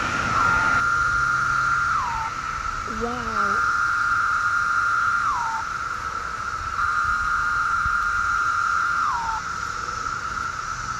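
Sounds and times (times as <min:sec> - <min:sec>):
cicada chorus buzzing drone: 0:00.0 - 0:10.9
male cicada call slurring down: 0:00.0 - 0:10.9.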